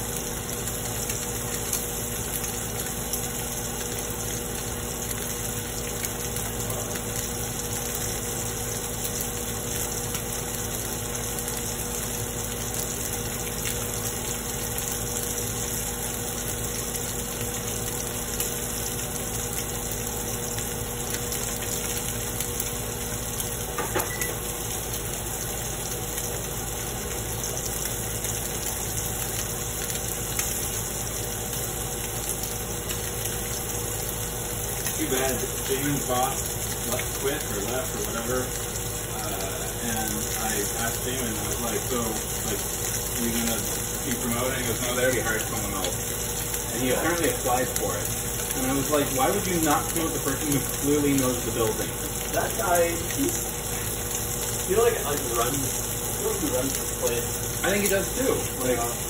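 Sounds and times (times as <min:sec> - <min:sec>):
mechanical hum: 0:00.0 - 0:59.0
steak sizzling in a frying pan: 0:00.0 - 0:59.0.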